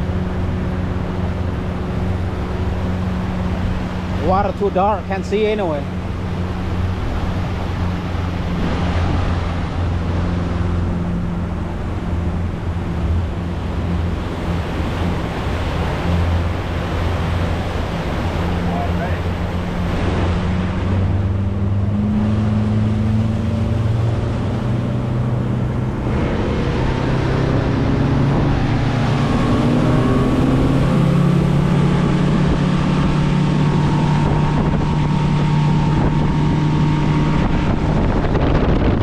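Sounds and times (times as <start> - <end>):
outboard motor running: 0.0 - 39.0
wind buffeting microphone: 0.0 - 39.0.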